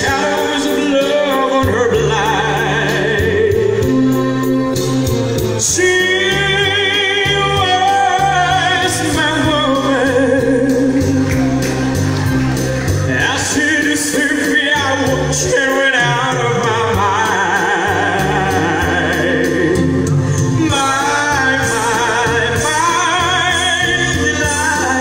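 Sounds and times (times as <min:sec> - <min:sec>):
man singing into microphone: 0:00.0 - 0:04.8, 0:05.4 - 0:11.3, 0:13.0 - 0:25.0
backing track with bass line: 0:00.0 - 0:25.0.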